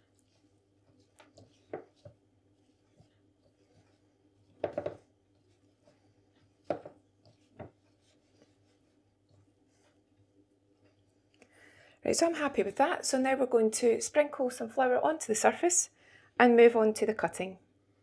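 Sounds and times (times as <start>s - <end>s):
dough kneaded in a bowl: 0.0s - 15.5s.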